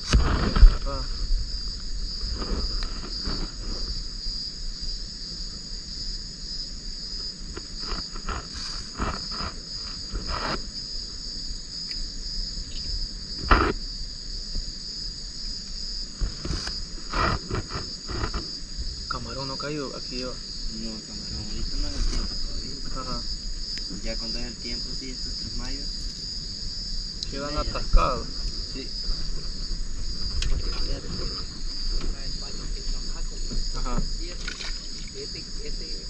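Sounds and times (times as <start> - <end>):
night insects trilling: 0.0 - 36.0.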